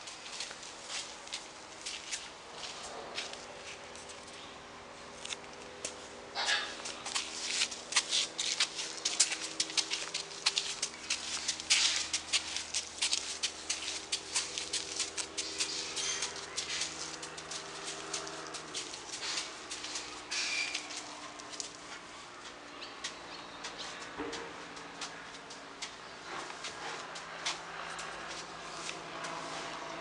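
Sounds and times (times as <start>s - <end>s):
footsteps on gritty ground: 0.0s - 4.5s, 5.1s - 30.0s.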